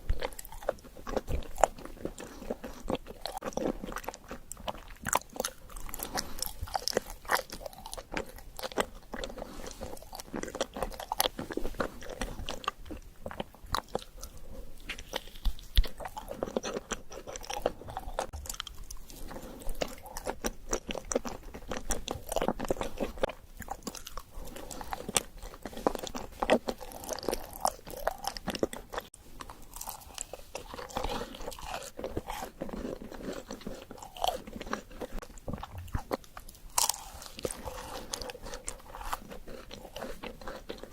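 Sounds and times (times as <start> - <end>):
crunchy chewing and biting: 0.0 - 40.9.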